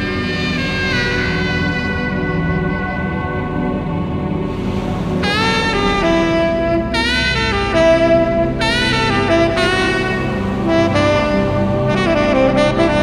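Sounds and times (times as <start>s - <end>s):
synthesizer pad: 0.0s - 13.0s
tenor saxophone jazz ballad: 0.0s - 13.0s.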